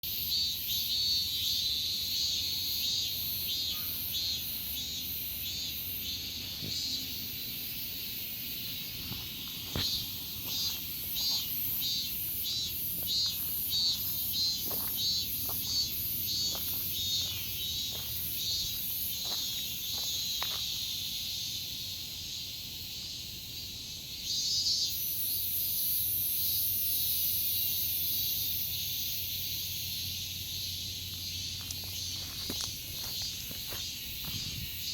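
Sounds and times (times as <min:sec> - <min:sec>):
cicadas buzzing chorus: 0:00.0 - 0:34.9.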